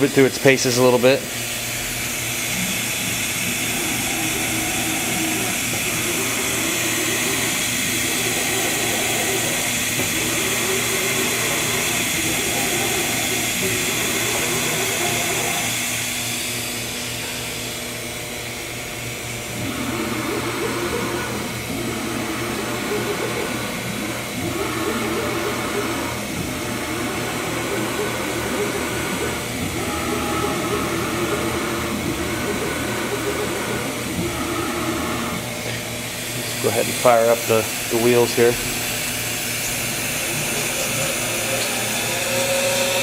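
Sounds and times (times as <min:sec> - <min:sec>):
grinder servo motors moving: 0:01.3 - 0:43.0.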